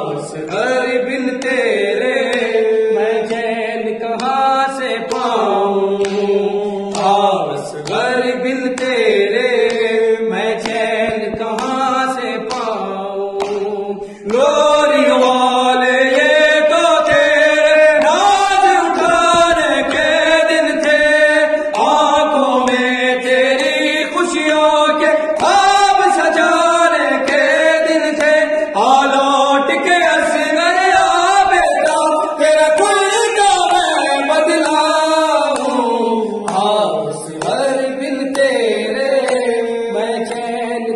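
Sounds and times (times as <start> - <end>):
men singing a lament: 0.0 - 40.9.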